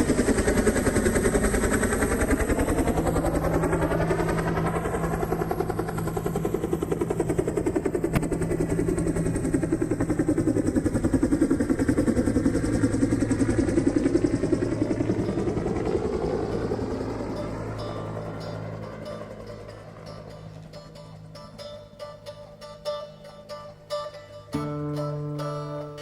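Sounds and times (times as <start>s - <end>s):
helicopter rotor blades beating: 0.0s - 26.0s
turbine engine tone: 0.0s - 26.0s.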